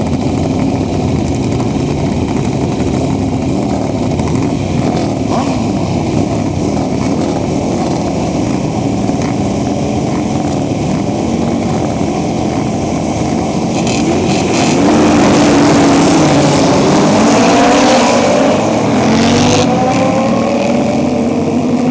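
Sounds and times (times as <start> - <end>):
motorcycle engines idling and revving: 0.0 - 21.9.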